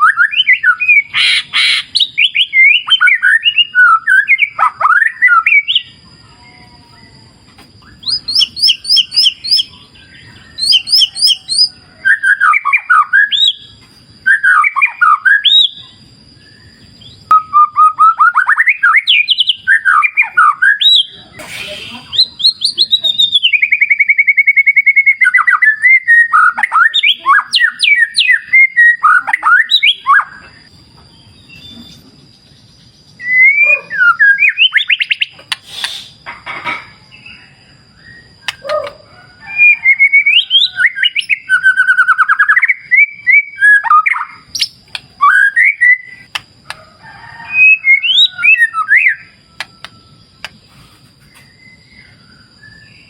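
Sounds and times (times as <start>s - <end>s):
bird singing whistles and trills: 0.0s - 36.2s, 37.1s - 46.4s, 47.2s - 53.0s.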